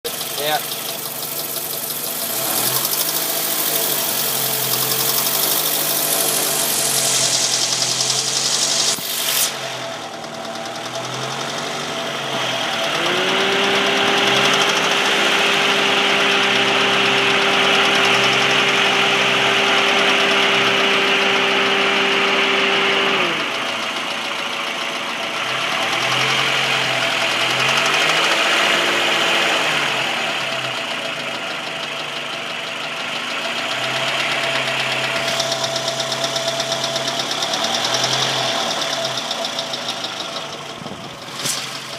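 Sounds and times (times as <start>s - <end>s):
car engine idling and revving: 0.0s - 41.9s
engine ticking noise: 0.0s - 41.9s.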